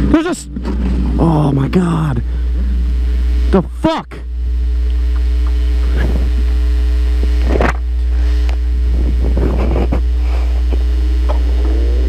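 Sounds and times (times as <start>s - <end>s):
loud low hum: 0.0s - 12.0s
vehicle engine running: 0.0s - 12.0s.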